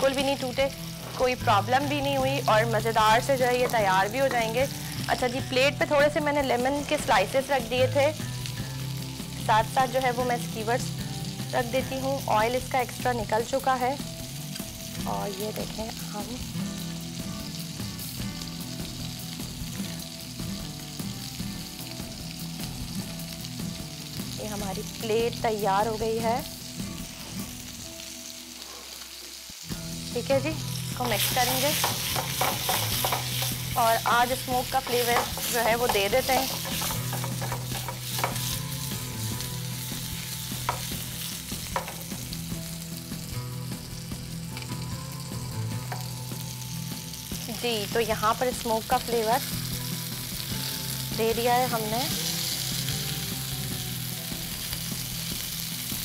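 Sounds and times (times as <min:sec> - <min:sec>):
light background music: 0:00.0 - 0:56.0
oil sizzling in a frying pan: 0:00.0 - 0:56.0.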